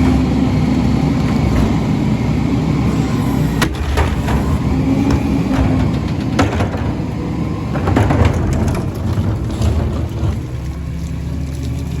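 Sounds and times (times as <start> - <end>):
knocks and clatter: 0.0 - 2.3, 3.6 - 11.8
diesel engine rumbling: 0.0 - 12.0.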